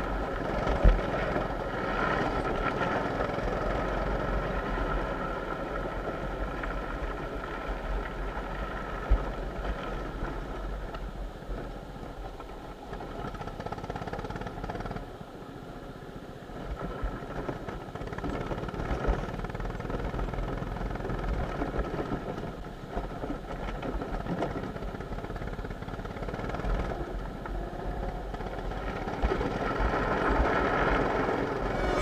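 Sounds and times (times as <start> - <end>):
go-kart engine running: 0.0 - 10.9, 12.8 - 15.2, 16.8 - 32.0.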